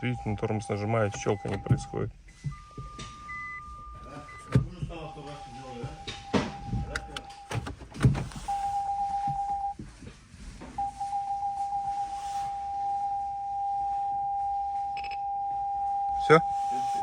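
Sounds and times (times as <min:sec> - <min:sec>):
electronic warning chime beeping: 0:00.0 - 0:07.5, 0:08.5 - 0:09.8, 0:10.8 - 0:17.0.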